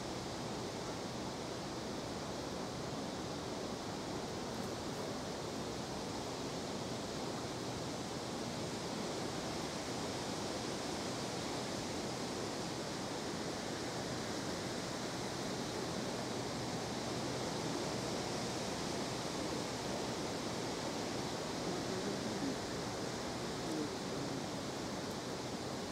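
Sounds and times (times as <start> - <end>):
outdoor background hiss: 0.0 - 25.9.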